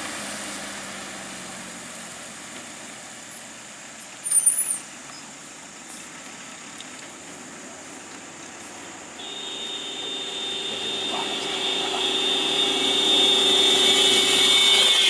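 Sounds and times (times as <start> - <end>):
vehicles idling: 0.0 - 15.0.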